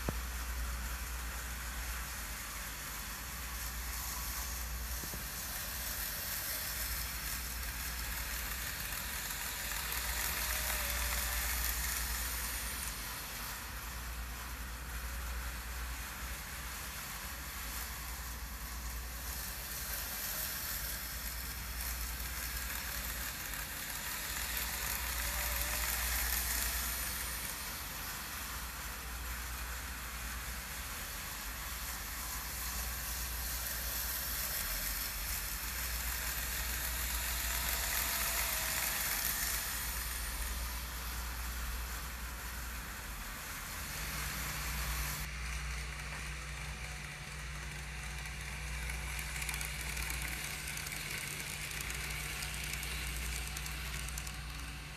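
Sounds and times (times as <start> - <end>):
faint wavering whine: 0.0 - 54.9
model trains running on track: 0.0 - 54.9.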